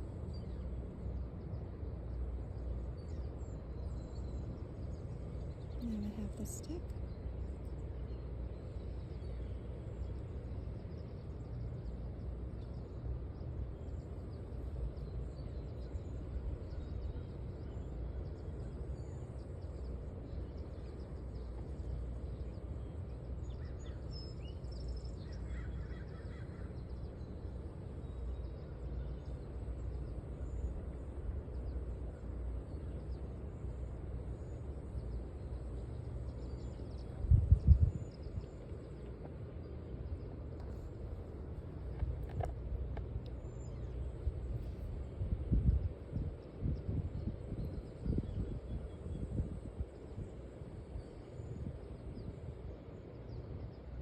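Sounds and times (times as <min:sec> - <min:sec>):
low river rumble: 0:00.0 - 0:54.0.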